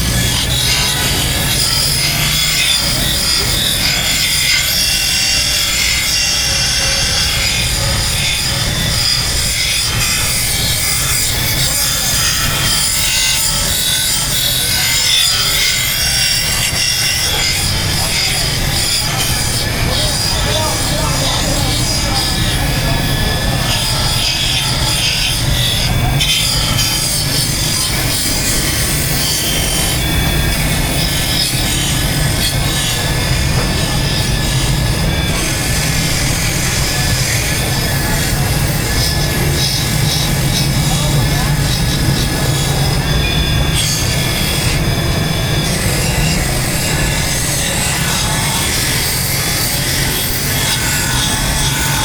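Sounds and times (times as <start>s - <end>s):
buffing wheel rubbing on metal: 0.0s - 52.0s.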